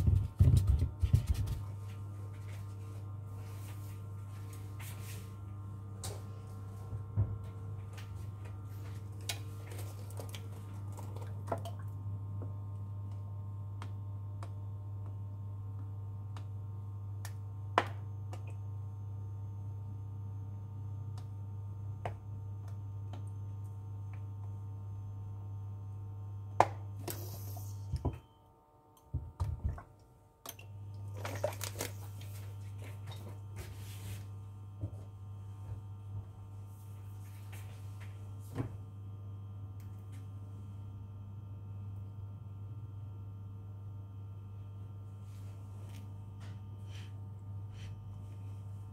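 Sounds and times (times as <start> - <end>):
electric hob humming: 0.0 - 48.9.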